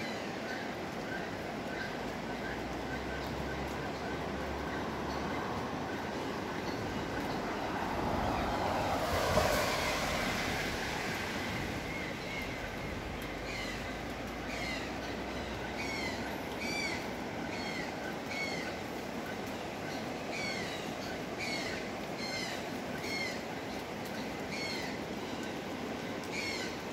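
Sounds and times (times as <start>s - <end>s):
steady rushing hiss: 0.0s - 26.9s.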